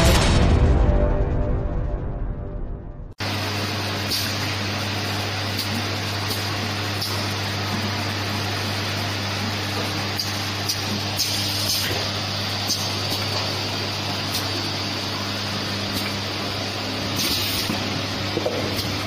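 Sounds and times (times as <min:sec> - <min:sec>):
machine motor hum: 0:03.2 - 0:19.0.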